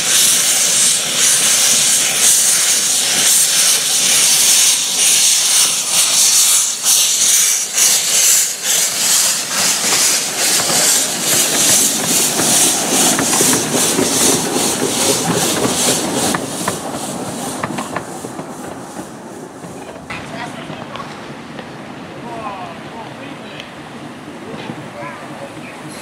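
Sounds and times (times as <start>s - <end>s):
steam hissing: 0.0s - 20.6s, 23.8s - 26.0s
steam locomotive chuffing: 0.0s - 26.0s.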